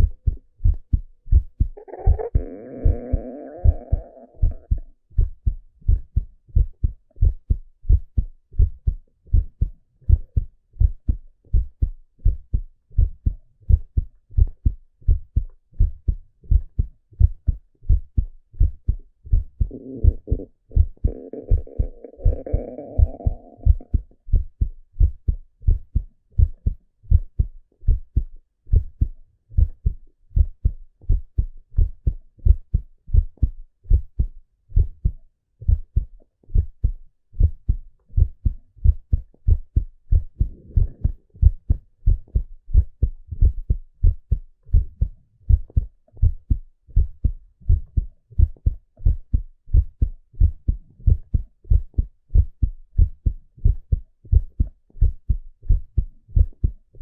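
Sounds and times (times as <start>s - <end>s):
heartbeat through stethoscope: 0.0s - 57.0s.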